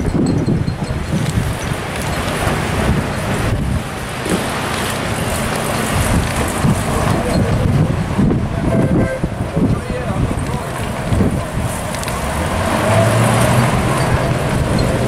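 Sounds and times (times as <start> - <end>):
wind buffeting microphone: 0.0 - 15.0
rain hiss: 1.0 - 15.0.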